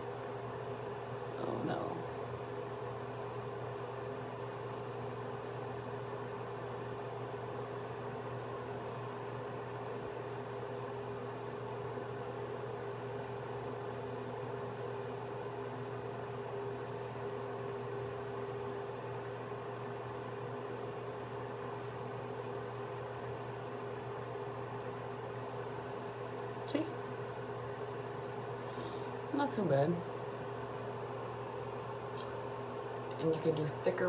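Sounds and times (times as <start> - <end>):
mechanical hum: 0.0 - 34.0.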